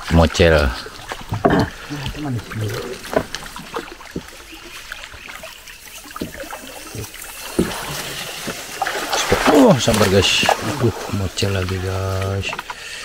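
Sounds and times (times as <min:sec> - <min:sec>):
faint trickling water: 0:00.0 - 0:13.0
light water splashes: 0:00.0 - 0:13.0.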